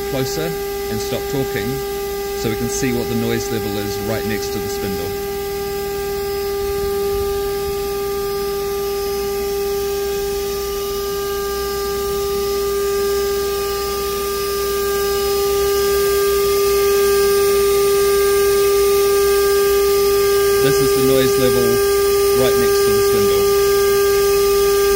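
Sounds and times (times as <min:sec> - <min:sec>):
router spindle high-pitched whine: 0:00.0 - 0:24.9.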